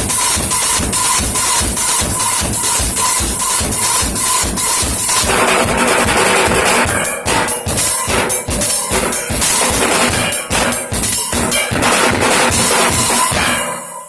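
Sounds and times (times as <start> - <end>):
drum kit playing freestyle: 0.0 - 14.0.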